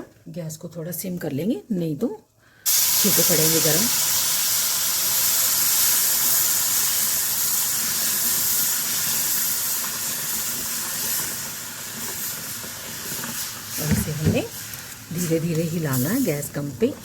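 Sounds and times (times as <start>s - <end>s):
water sizzling in a hot pan: 2.6s - 17.0s.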